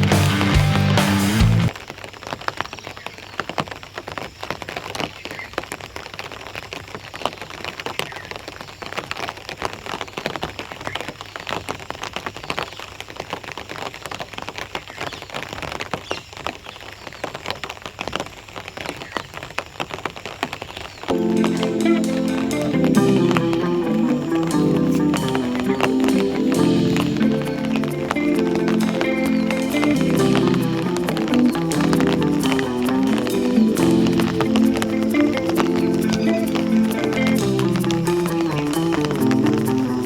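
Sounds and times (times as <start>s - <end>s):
steady rain falling: 1.7s - 40.0s.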